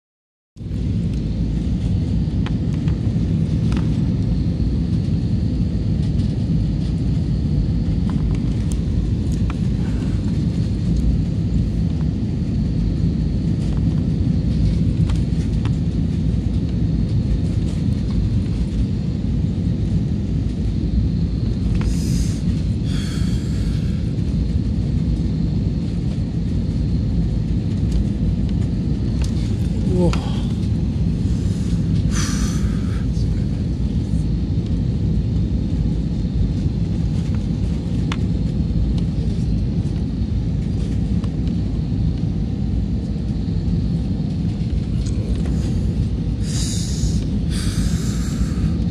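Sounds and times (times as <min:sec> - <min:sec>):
jet engines rumbling: 0:00.6 - 0:48.9.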